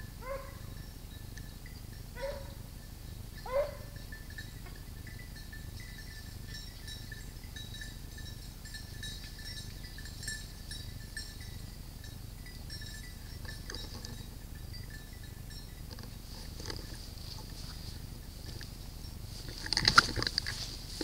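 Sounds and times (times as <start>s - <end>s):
low steady rumble: 0.0s - 21.0s
small bells tinkling: 0.0s - 21.0s.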